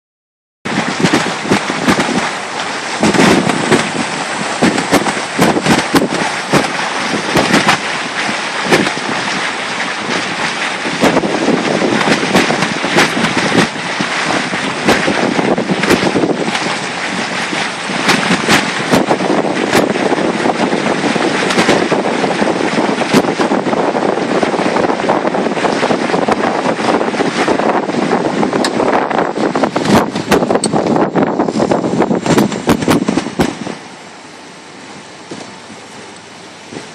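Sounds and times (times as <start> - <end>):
wind buffeting microphone: 0.7 - 36.9.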